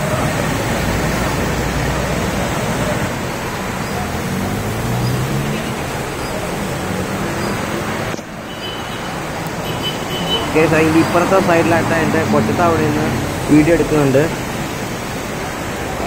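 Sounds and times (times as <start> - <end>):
fire engine passing: 0.0 - 16.0
rushing water: 0.0 - 16.0
vehicle engines droning: 0.0 - 16.0.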